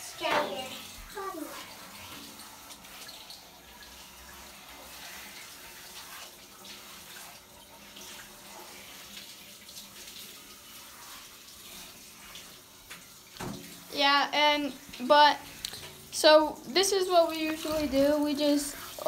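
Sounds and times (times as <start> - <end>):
shower spray hissing: 0.0 - 19.0.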